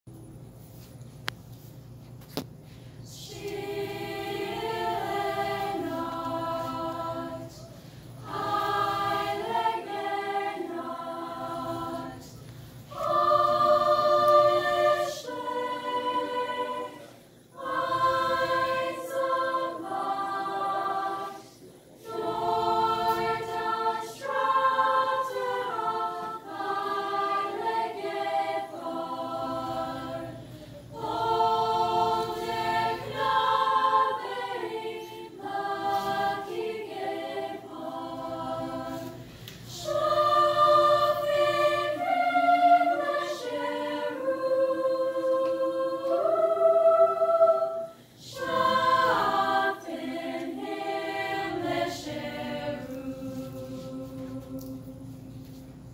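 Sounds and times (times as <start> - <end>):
choir singing a cappella: 3.0 - 55.9.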